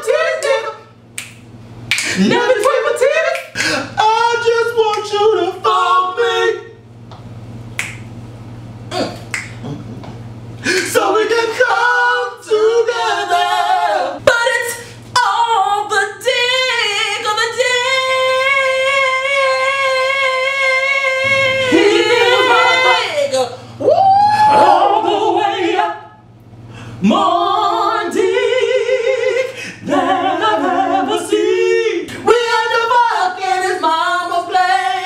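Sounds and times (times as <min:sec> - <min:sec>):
men singing a cappella: 0:00.0 - 0:01.0, 0:02.0 - 0:06.8, 0:10.6 - 0:26.2, 0:26.9 - 0:35.0.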